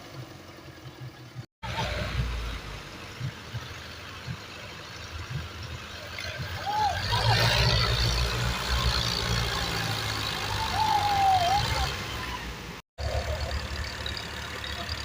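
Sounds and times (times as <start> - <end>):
tractor diesel engines rumbling: 0.0 - 15.0.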